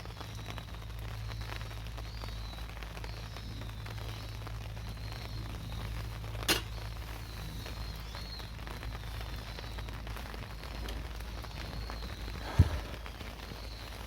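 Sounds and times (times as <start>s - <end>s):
campfire crackling: 0.0s - 14.0s
rain pattering: 0.0s - 14.0s.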